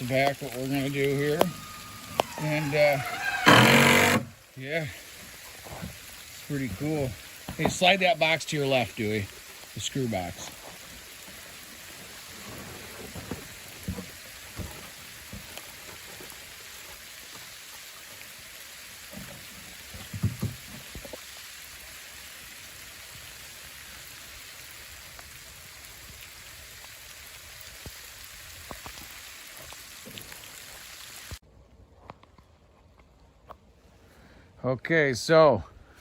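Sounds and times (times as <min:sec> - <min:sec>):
rain and sleet falling: 0:00.0 - 0:31.4.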